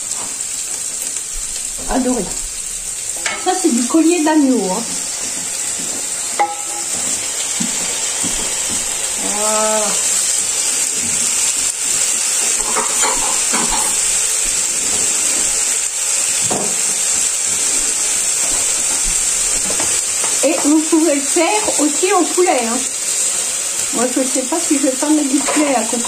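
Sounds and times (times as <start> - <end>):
meat and onions sizzling in a pan: 0.0 - 26.0.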